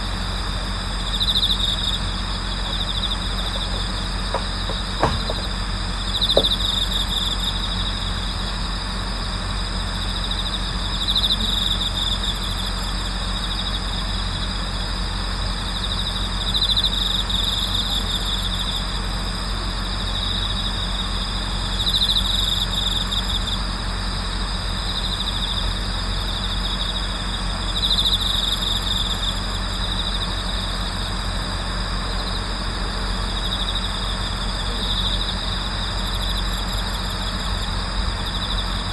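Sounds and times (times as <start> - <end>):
crickets trilling: 0.0 - 38.9
steady low hum: 0.0 - 38.9.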